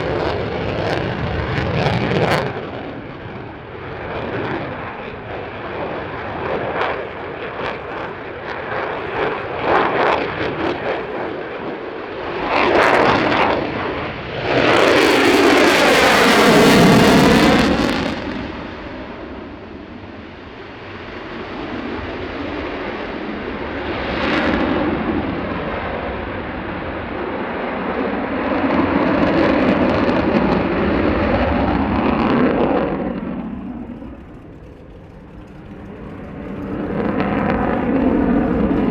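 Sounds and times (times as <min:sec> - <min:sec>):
jet aircraft passing: 0:00.0 - 0:38.9.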